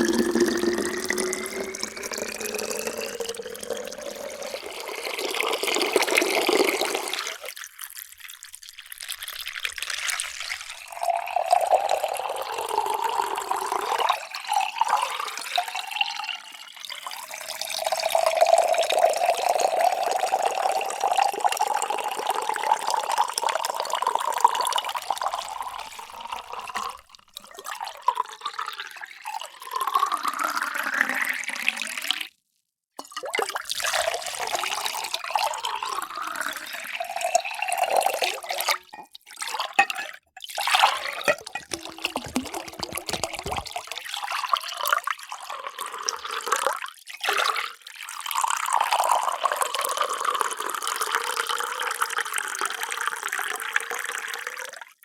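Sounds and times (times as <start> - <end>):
water pouring into containers: 0.0 - 32.4, 33.0 - 55.0.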